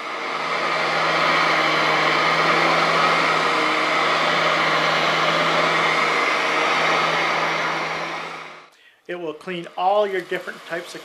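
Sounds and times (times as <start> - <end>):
vacuum cleaner running: 0.0 - 8.7, 9.3 - 11.0.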